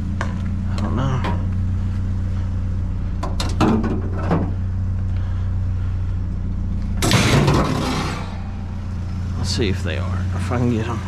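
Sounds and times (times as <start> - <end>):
truck engine drone from cab: 0.0 - 11.0.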